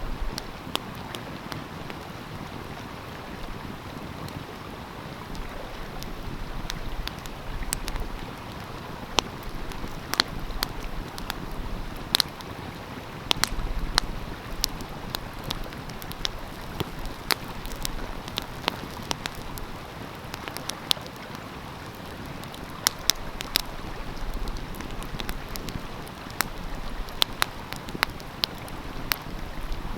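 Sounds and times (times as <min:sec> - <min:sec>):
stream flowing: 0:00.0 - 0:29.9
wood fire crackling and popping: 0:00.1 - 0:29.9.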